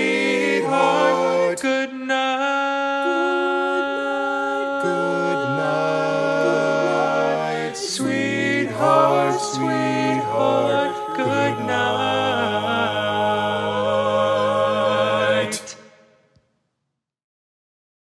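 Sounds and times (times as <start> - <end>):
male quartet singing a cappella: 0.0 - 16.0.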